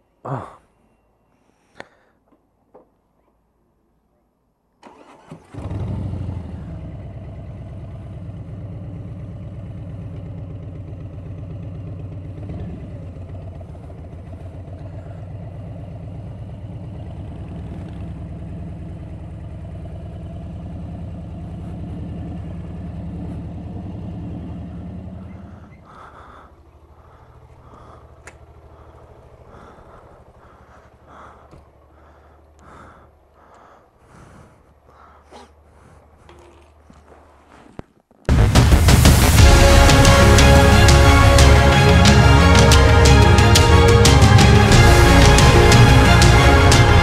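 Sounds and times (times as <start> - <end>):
motorcycle engine running: 5.5 - 34.8, 38.3 - 47.0.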